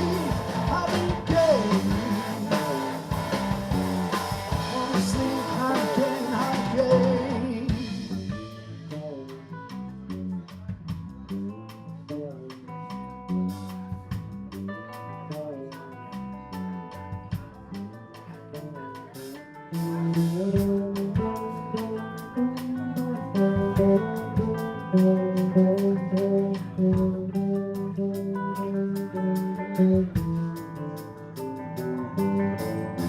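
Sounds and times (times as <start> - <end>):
plucked guitar music: 0.0 - 33.0.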